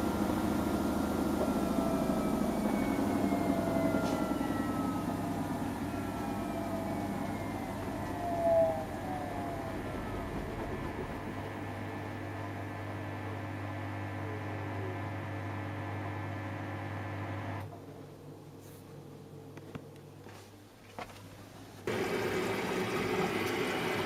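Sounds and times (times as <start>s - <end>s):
washing machine hum and whine: 0.0s - 24.0s.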